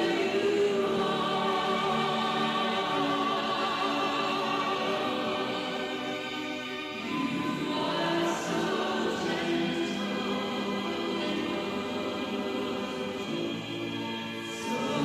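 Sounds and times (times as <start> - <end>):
choir singing slow chords: 0.0 - 15.0.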